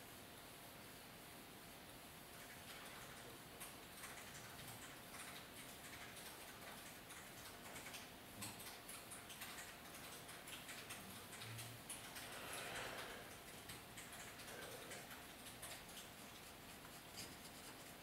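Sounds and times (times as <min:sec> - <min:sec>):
low room hiss: 0:00.0 - 0:18.0.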